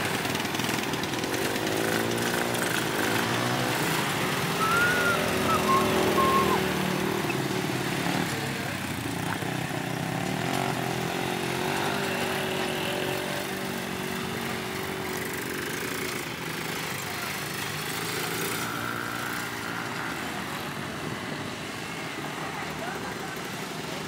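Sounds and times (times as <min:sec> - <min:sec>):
quad and dirt bike engines: 0:00.0 - 0:24.0.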